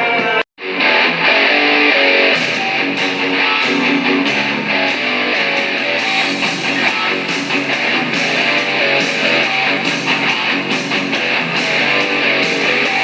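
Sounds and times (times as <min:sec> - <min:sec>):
strummed guitar song: 0:00.0 - 0:13.0.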